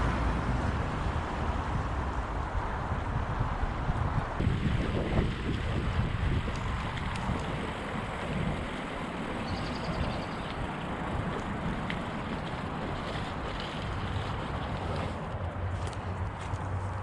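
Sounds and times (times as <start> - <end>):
wind rumbling on microphone: 0.0 - 17.0
bike tyres rolling on wet leaves: 0.4 - 17.0.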